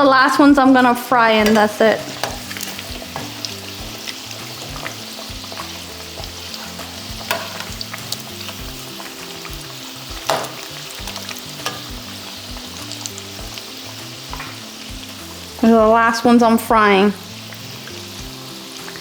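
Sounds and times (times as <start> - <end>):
batter deep-frying in hot oil: 0.0 - 19.0.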